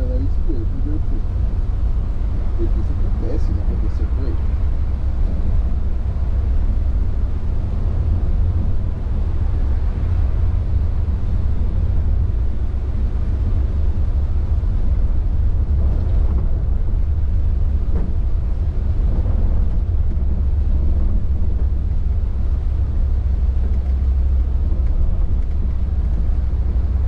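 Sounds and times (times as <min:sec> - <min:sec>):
coach engine and road rumble: 0:00.0 - 0:27.0.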